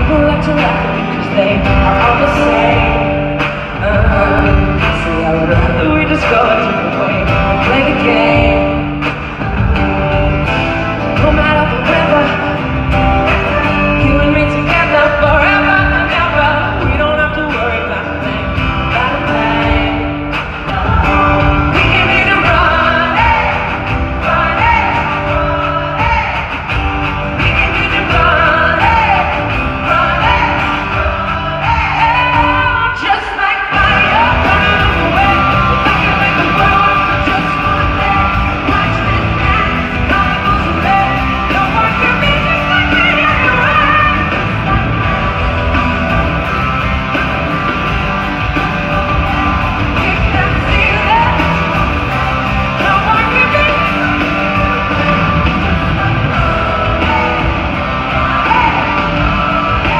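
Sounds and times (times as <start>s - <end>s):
woman singing: 0.0s - 9.9s, 11.1s - 26.7s, 27.4s - 59.9s
live pop-rock band: 0.0s - 59.9s.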